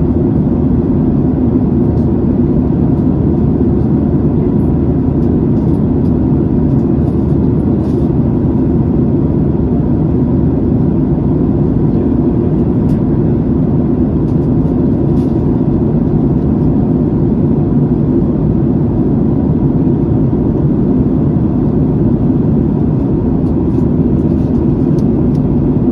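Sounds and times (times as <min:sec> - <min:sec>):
aircraft engines droning: 0:00.0 - 0:25.9.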